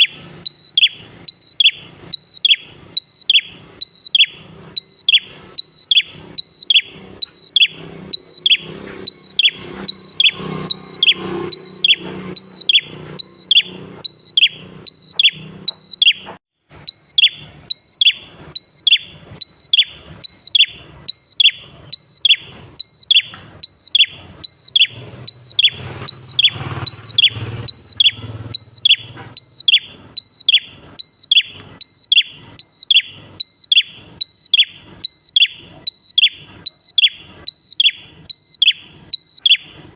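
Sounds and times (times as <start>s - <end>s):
songbird calling: 0.0s - 39.9s.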